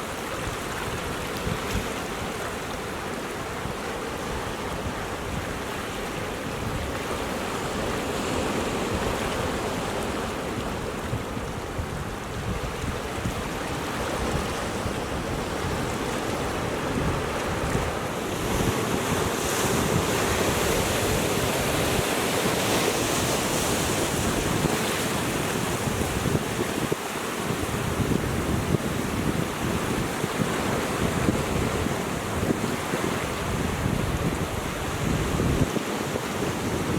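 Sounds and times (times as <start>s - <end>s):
surf on rocky shore: 0.0s - 36.9s
wind buffeting microphone: 0.1s - 36.9s.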